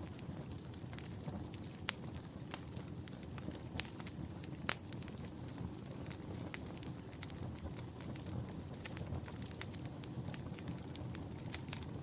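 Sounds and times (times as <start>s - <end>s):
fire crackling: 0.0s - 12.0s
sharp pops of fire: 0.0s - 12.0s.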